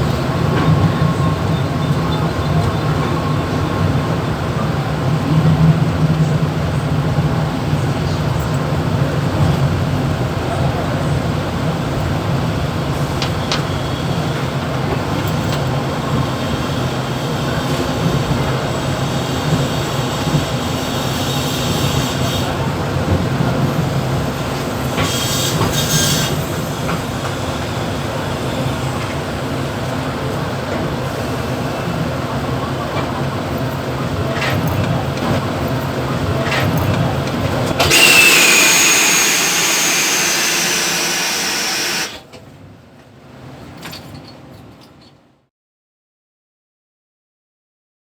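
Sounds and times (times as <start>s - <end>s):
train rumbling on track: 0.0s - 43.8s.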